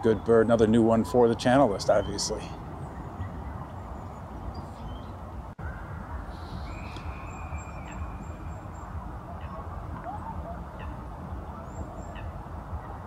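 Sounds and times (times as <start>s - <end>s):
steady low rumble: 0.0s - 13.0s
faint bird calls: 1.9s - 13.0s.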